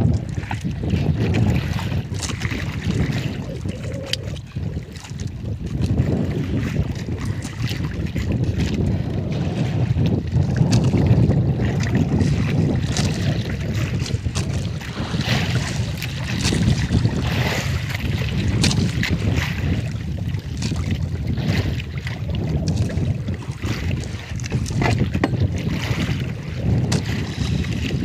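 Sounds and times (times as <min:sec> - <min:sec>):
water washing against boat hull: 0:00.0 - 0:28.0
wind buffeting microphone: 0:00.0 - 0:28.0.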